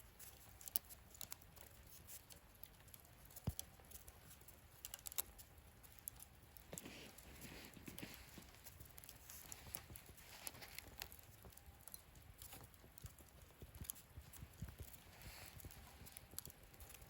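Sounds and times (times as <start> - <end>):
burning wood crackling: 0.0 - 17.0.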